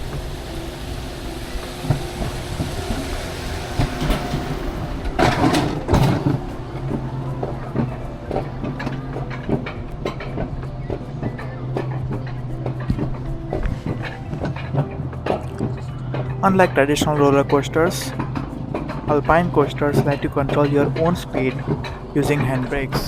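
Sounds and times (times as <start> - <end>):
coaster cart mechanical hum: 0.0 - 23.0
rattling rail clicks: 0.0 - 23.0.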